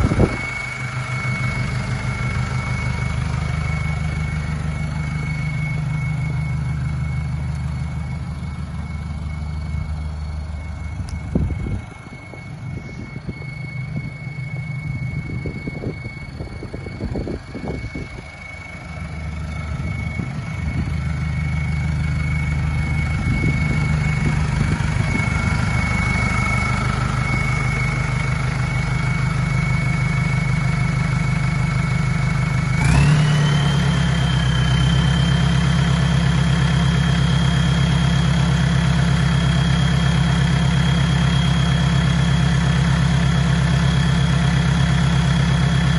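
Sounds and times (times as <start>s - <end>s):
turbo whistle: 0.0s - 45.9s
van engine hum: 0.0s - 45.9s.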